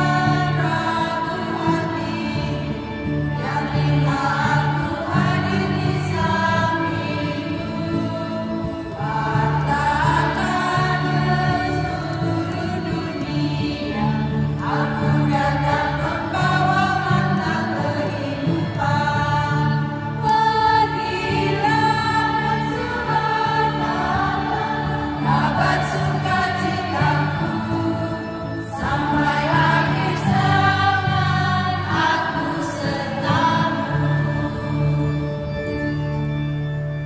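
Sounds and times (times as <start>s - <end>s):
women's choir singing a hymn: 0.0s - 36.7s
low held accompaniment notes: 0.0s - 37.0s.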